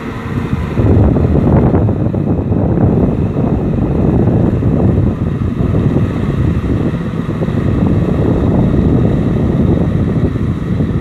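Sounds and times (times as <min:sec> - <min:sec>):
tractor diesel engine running: 0:00.0 - 0:11.0
wind on microphone: 0:00.0 - 0:11.0.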